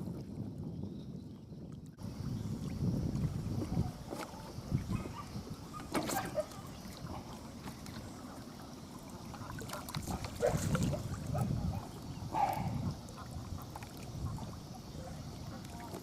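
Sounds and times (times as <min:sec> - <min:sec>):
choppy water lapping: 0:00.0 - 0:16.0
wind buffeting microphone: 0:00.0 - 0:16.0.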